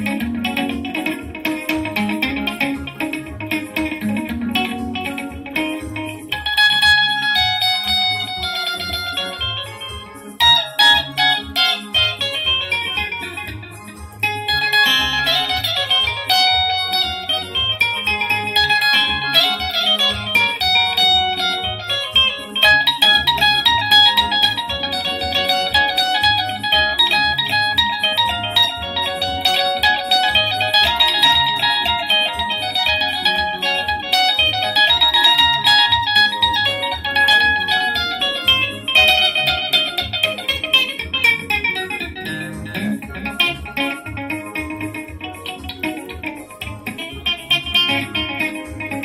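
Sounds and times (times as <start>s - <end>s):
electric guitar melodic runs: 0.0s - 49.0s
keyboard chords: 0.0s - 49.0s
pulsing bass line: 0.0s - 49.0s.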